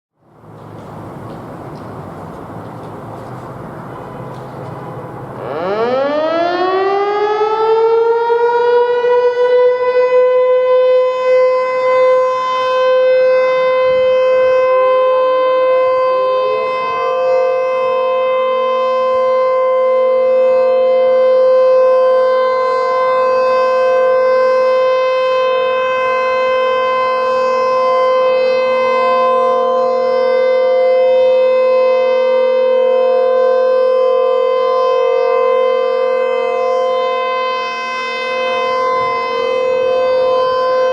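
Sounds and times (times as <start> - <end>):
warning siren wailing: 4.0 - 40.9.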